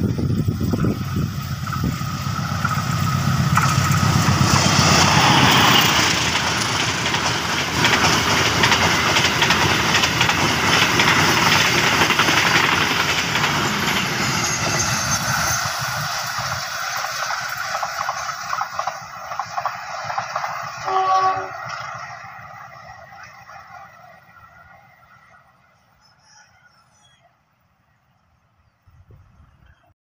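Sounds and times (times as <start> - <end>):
train passing at speed: 0.0 - 29.9.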